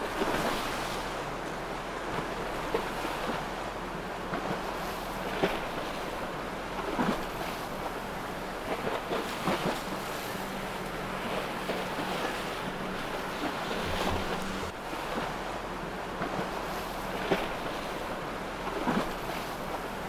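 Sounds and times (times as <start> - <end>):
boat engine hum: 0.0 - 20.0
water rushing and splashing: 0.0 - 20.0.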